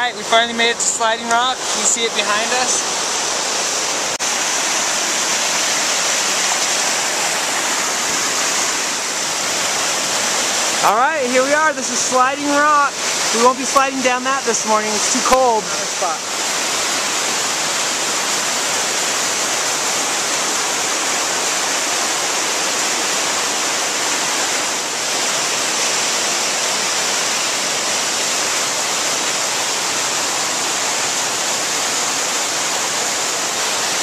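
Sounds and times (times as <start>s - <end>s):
waterfall rushing over rocks: 0.0s - 34.0s.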